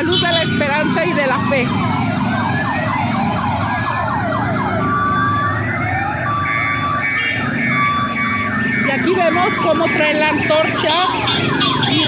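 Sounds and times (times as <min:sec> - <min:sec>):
motorcycle engines running: 0:00.0 - 0:12.0
sirens yelping and wailing: 0:00.0 - 0:12.0
steady siren tone: 0:00.2 - 0:12.0.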